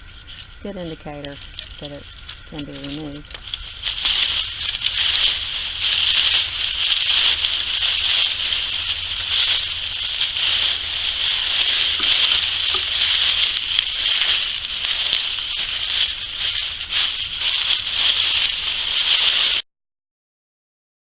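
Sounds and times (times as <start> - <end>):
dry foliage rustling and crackling: 0.0 - 19.6.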